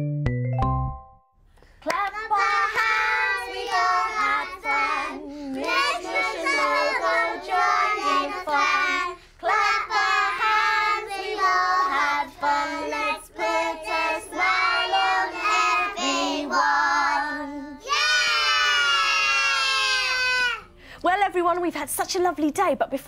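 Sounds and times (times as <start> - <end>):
young children singing: 2.1 - 20.6.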